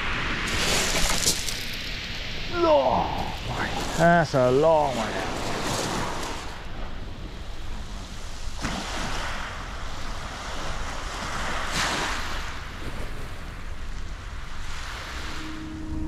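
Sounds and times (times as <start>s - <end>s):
waves breaking on shingle beach: 0.0s - 15.7s.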